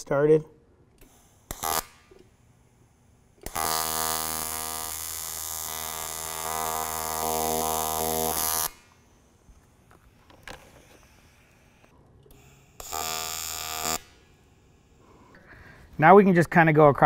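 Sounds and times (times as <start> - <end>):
welding arc buzzing: 0.9 - 15.4.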